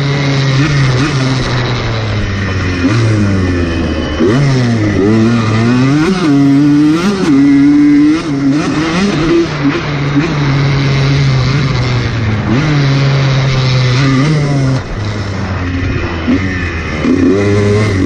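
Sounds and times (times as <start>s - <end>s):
motocross bike engine: 0.0s - 18.0s.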